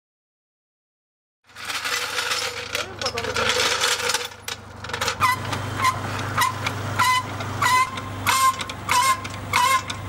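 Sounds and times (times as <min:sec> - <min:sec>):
floor jack pumping and squeaking: 0:01.5 - 0:10.0.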